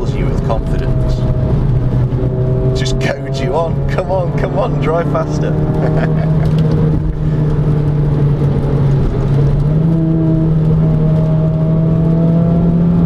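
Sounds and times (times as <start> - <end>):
car engine drone from inside: 0.0 - 13.0
road rumble: 0.0 - 13.0.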